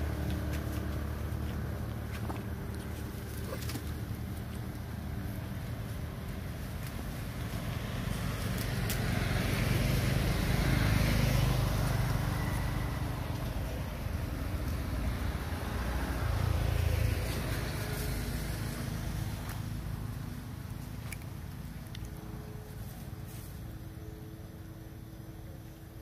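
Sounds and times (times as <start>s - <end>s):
passing road traffic rumble: 0.0s - 26.0s.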